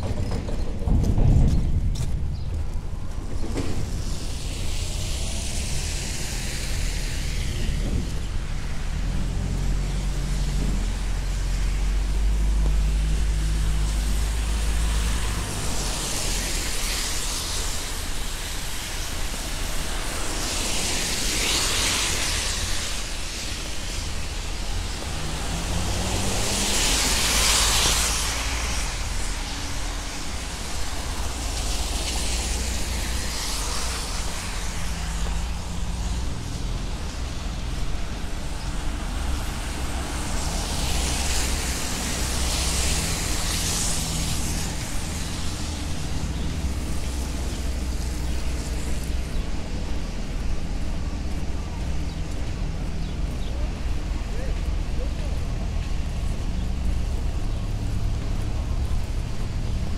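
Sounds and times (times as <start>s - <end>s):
tyres hissing on wet road: 0.1s - 59.9s.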